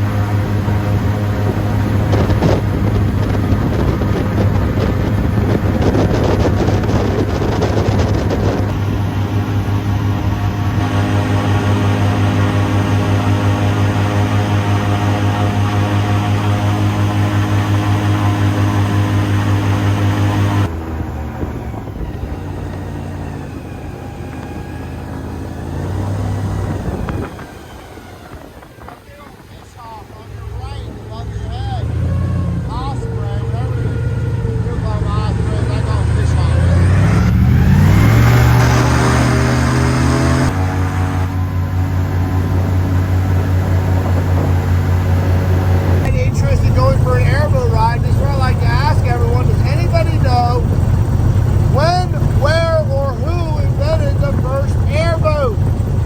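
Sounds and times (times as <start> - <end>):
airboat engine and propeller droning: 0.0 - 56.0
wind buffeting microphone: 0.0 - 56.0.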